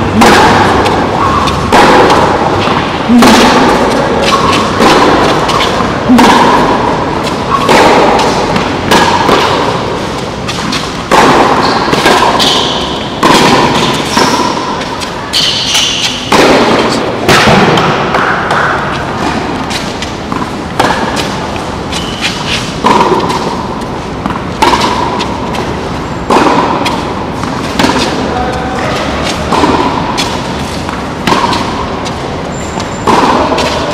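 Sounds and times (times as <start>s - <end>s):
racket striking tennis ball: 0.0s - 33.9s
tennis ball bouncing on hard court: 0.0s - 33.9s.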